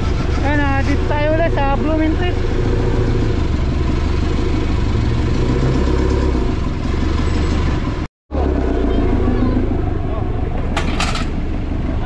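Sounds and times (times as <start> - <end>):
car engine idling: 0.0 - 5.4, 6.5 - 12.0.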